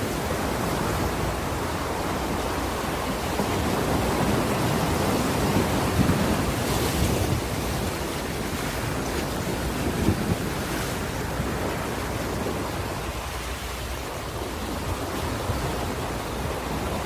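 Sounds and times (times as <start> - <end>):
ocean waves on a shore: 0.0 - 17.0.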